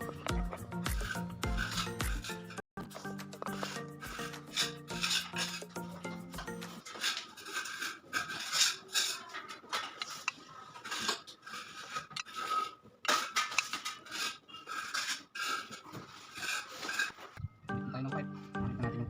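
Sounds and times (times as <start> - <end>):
rasping scraping strokes: 0.9 - 9.3, 10.0 - 17.4.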